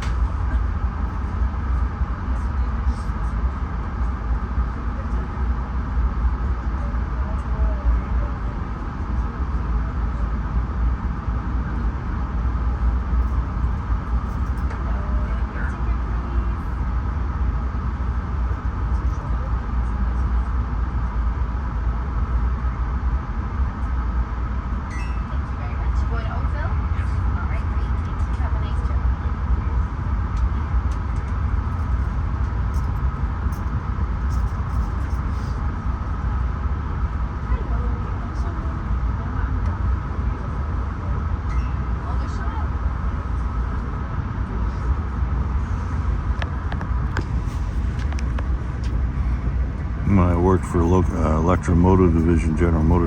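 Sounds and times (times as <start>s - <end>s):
train rumbling on track: 0.0s - 53.0s.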